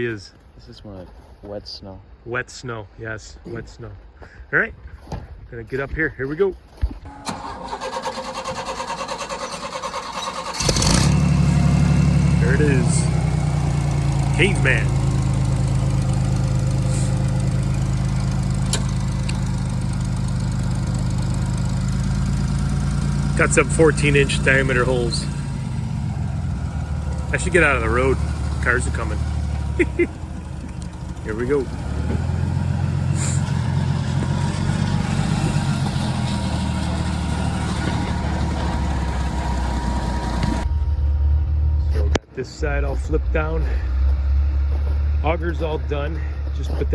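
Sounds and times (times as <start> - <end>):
auger engine running: 7.0 - 46.9.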